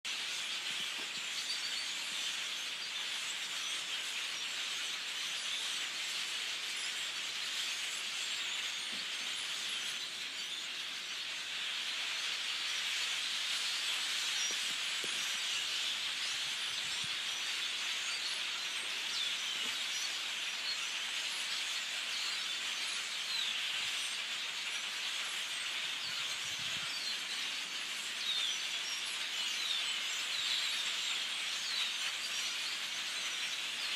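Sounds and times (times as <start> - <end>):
chorus of small birds chirping: 0.0 - 33.9.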